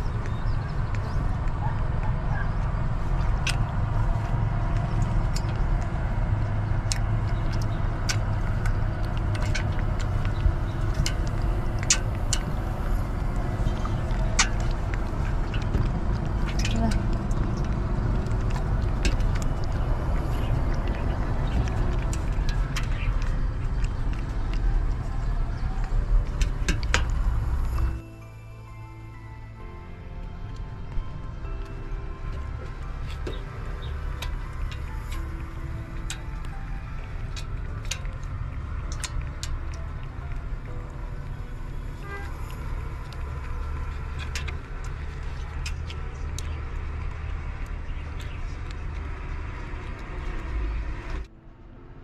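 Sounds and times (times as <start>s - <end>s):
wet clicks and smacks: 0.0s - 28.0s, 33.1s - 40.8s, 43.0s - 50.5s
low rumble: 0.0s - 52.0s.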